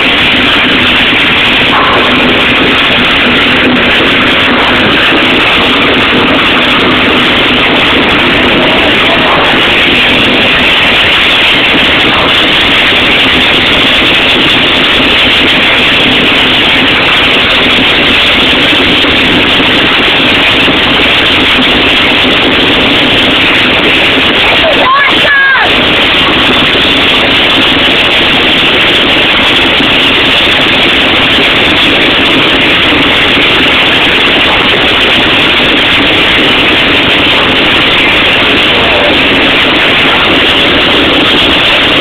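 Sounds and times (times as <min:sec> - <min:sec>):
steam rushing and hissing: 0:00.0 - 0:42.0.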